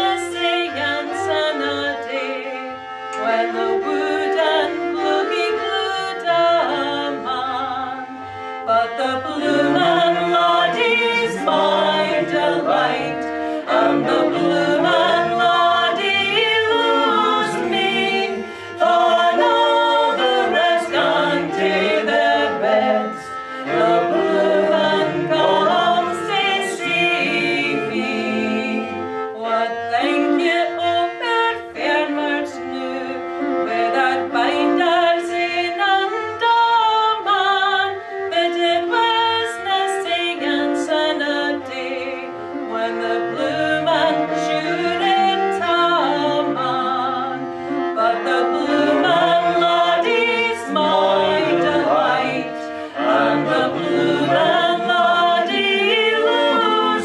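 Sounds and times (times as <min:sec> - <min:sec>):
women singing a ballad: 0:00.0 - 0:08.0, 0:08.7 - 0:57.0
fiddle playing: 0:00.0 - 0:57.0.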